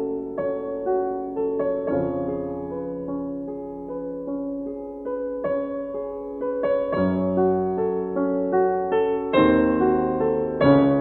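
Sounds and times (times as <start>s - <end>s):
slow piano music: 0.0s - 11.0s.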